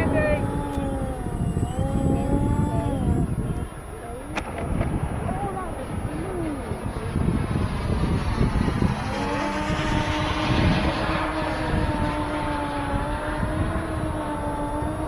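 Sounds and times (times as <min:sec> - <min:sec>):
electric ducted fans running: 0:00.0 - 0:15.0
rough noisy rumble: 0:00.0 - 0:15.0
steady whine: 0:00.0 - 0:15.0.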